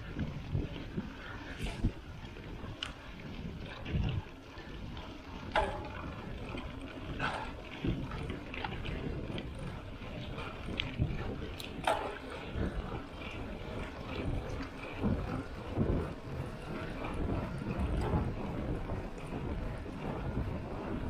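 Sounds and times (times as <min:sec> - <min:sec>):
bike clicks and rattles: 0:00.0 - 0:21.0
tyre rumble on wet road: 0:00.0 - 0:21.0
wind on microphone: 0:00.0 - 0:21.0.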